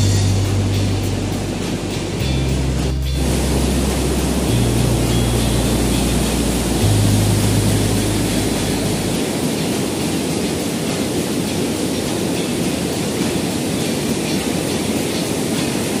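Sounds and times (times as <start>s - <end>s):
river rushing over boulders: 0.0s - 16.0s.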